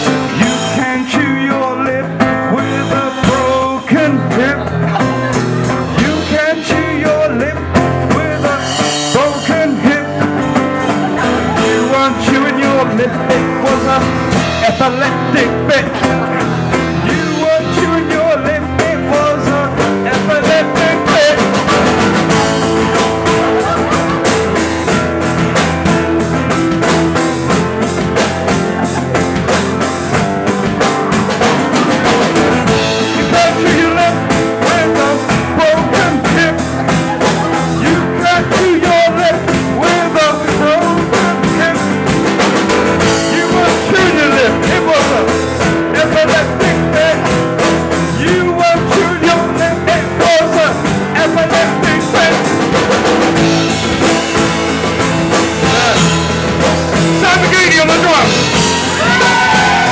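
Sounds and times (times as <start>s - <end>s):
instrumental rock and roll music: 0.0s - 59.9s.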